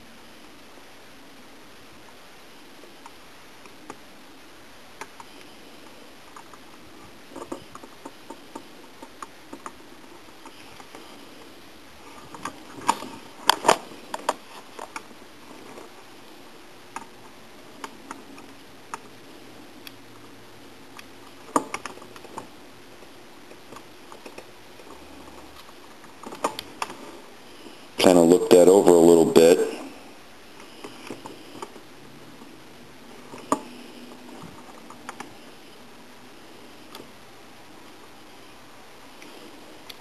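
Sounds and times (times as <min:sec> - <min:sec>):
faint steady hiss: 0:00.0 - 0:40.0.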